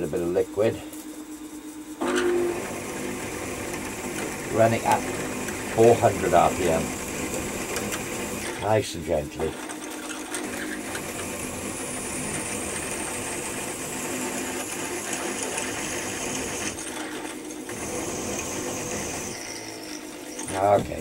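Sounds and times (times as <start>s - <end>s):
milling machine spindle running: 2.0s - 21.0s.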